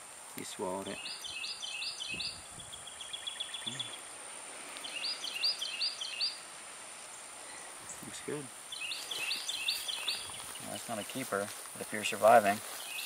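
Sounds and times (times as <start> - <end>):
bird singing: 0.7 - 4.1, 4.8 - 13.0.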